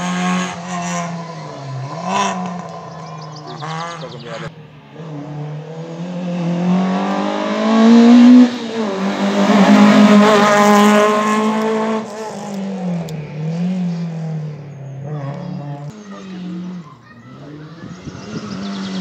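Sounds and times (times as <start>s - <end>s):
car engine revving past: 0.0s - 19.0s.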